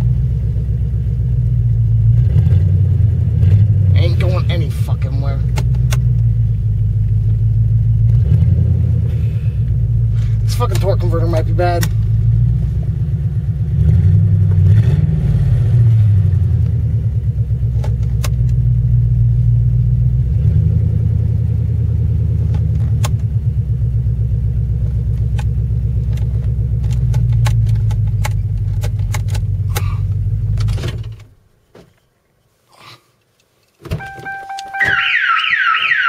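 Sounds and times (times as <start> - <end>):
loud engine rumble: 0.0 - 31.2.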